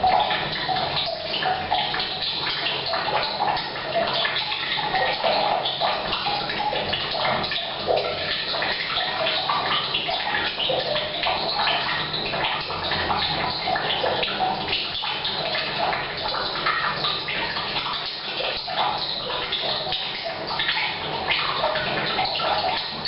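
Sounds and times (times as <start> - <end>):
water pouring into a tank: 0.0 - 23.0.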